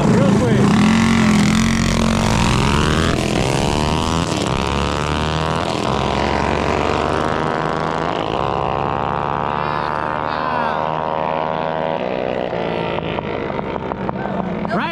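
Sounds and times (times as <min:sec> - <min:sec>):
mini bike engines at full throttle: 0:00.0 - 0:14.9.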